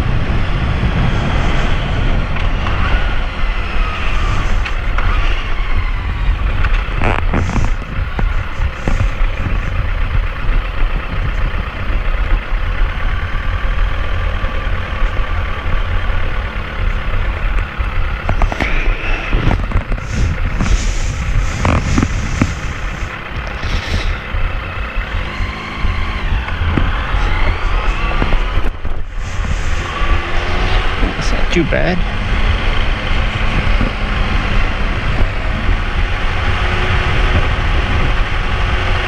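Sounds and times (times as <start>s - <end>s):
motorcycle engine running: 0.0s - 39.0s
wind rumbling on microphone: 0.0s - 39.0s.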